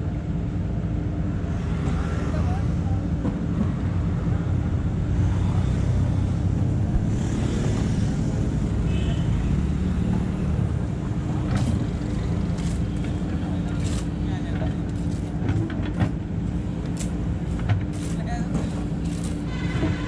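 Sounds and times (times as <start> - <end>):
diesel engine running under load: 2.4 - 20.0.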